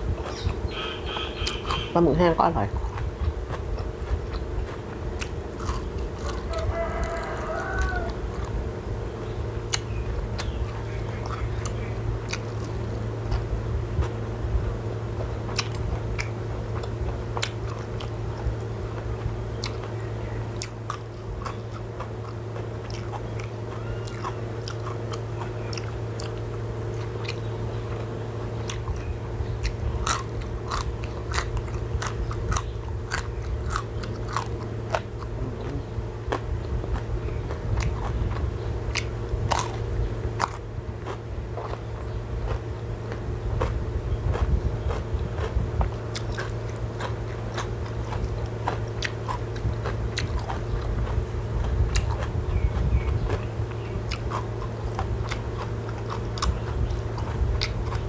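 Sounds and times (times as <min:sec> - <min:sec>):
person chewing crunchy food: 0:00.0 - 0:58.0
steady low hum: 0:00.0 - 0:58.0.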